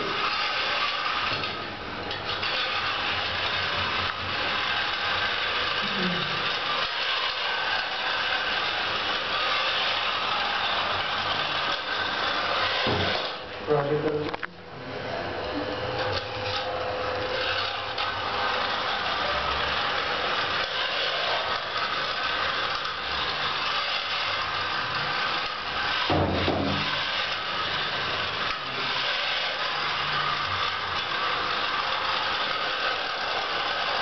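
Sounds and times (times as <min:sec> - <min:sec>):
robot vacuum cleaner whirring: 0:00.0 - 0:34.0.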